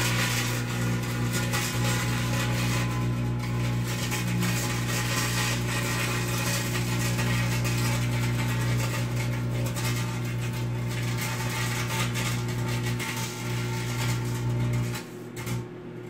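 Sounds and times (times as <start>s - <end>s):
wire arcing crackling and fizzing: 0.0s - 15.7s
microwave oven humming: 0.0s - 16.0s.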